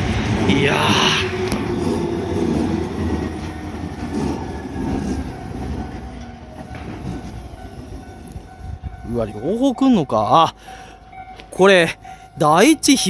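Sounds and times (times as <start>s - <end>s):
electric train passing: 0.0s - 13.0s
train wheels on rails: 0.0s - 13.0s.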